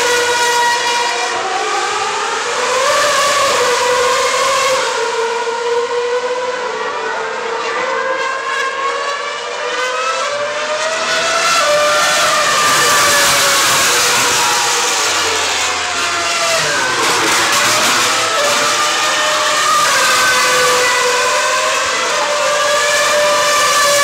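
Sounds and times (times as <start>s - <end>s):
race car engines screaming: 0.0s - 24.0s.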